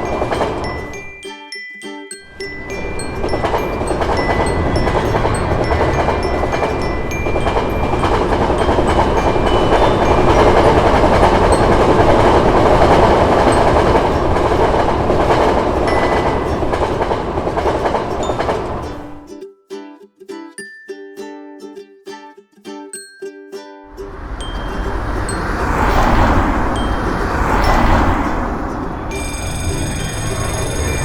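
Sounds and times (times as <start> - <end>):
train wheels on rails: 0.0 - 1.2, 2.3 - 19.2, 24.0 - 31.0.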